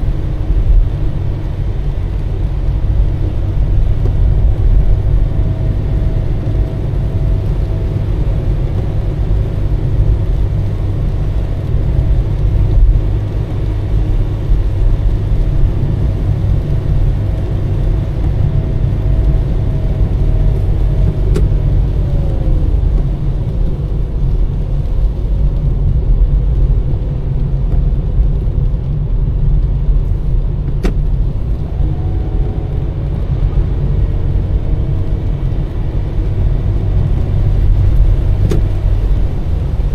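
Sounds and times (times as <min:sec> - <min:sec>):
car engine and tyres rumble: 0:00.0 - 0:39.9.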